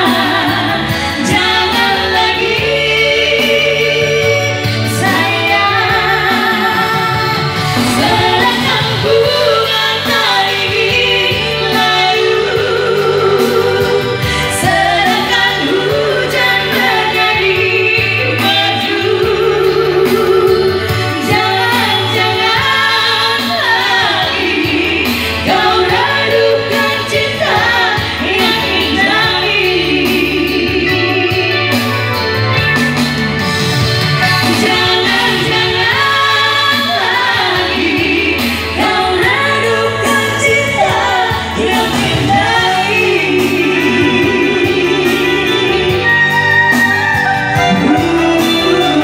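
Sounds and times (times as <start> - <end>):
woman singing with vibrato: 0.0 - 33.5, 34.2 - 49.0
backing music with bass line: 0.0 - 49.0.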